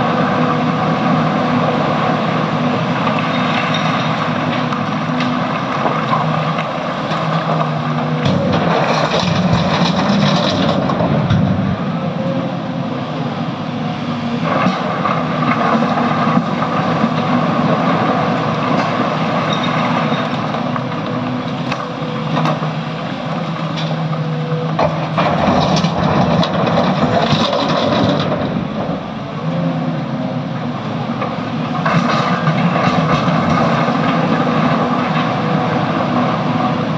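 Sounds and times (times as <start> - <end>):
excavator diesel engine working: 0.0 - 36.9.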